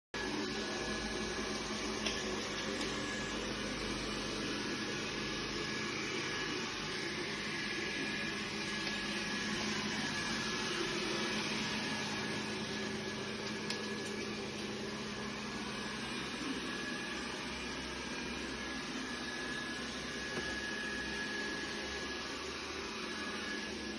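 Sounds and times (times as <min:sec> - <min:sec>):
robot vacuum motor whirring: 0:01.8 - 0:23.9.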